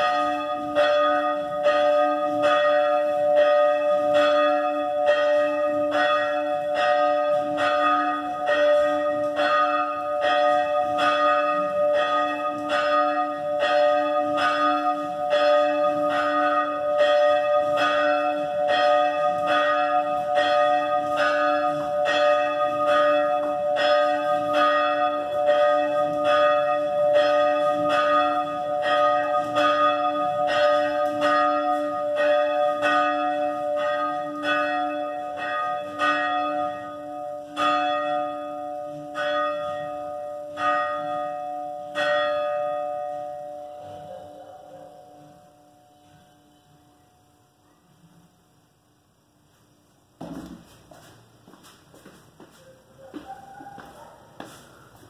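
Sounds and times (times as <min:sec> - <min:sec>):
church bell ringing: 0:00.0 - 0:47.6.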